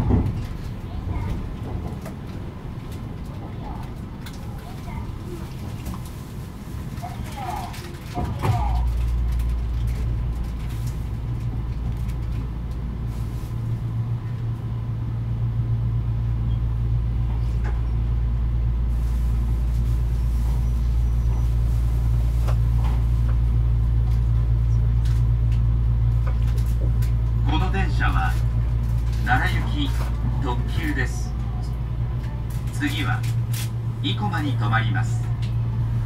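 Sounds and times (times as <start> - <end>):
electric train rumble and hum: 0.0 - 36.0.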